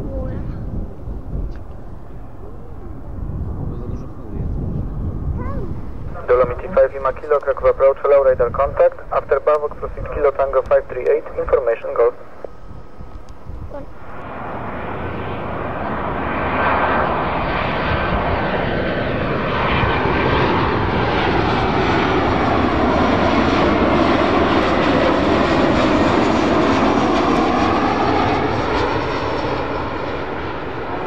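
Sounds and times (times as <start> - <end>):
jet airliner engine noise: 0.0 - 31.0.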